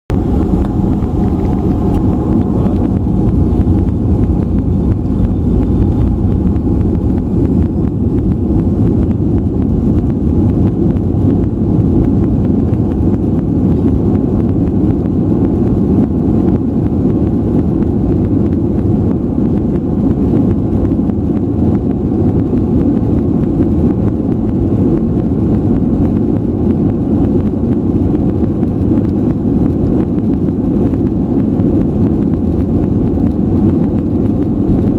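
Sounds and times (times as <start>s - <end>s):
airliner engines rumbling on takeoff: 0.0s - 34.9s
rushing air: 0.1s - 34.9s.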